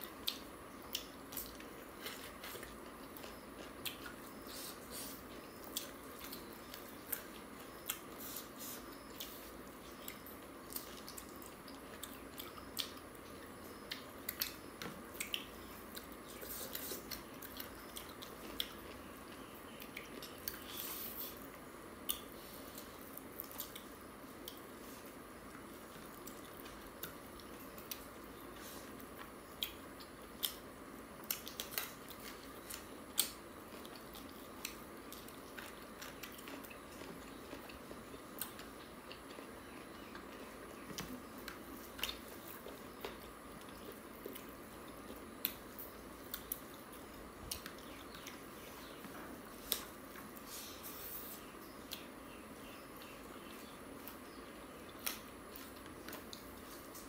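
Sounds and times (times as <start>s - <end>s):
chewing and mouth clicks: 0.0s - 49.0s, 51.8s - 52.2s, 53.0s - 57.0s
low background noise: 0.0s - 57.0s.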